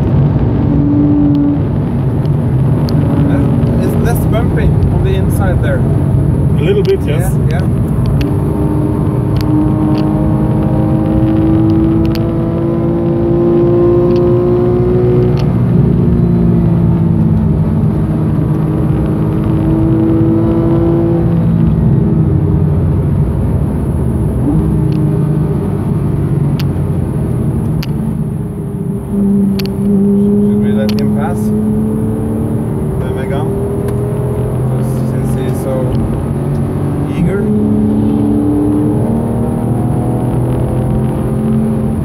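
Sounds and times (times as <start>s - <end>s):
car engine accelerating: 0.0s - 42.0s
tyre and road noise: 0.0s - 42.0s.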